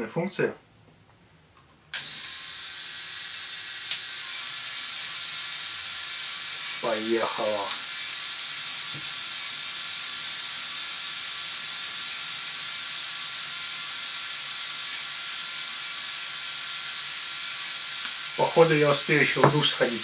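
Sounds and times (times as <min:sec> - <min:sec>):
toy excavator motor and tracks: 0:01.9 - 0:20.0.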